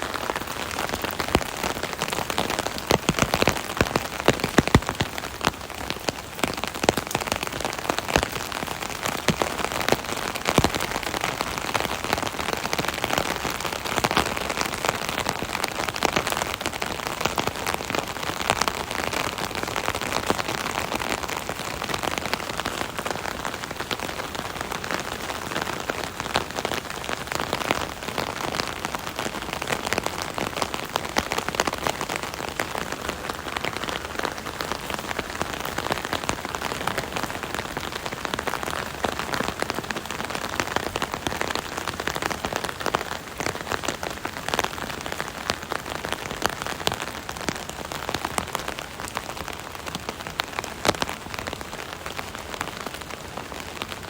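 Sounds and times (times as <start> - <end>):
rain drumming on umbrella: 0.0 - 54.0.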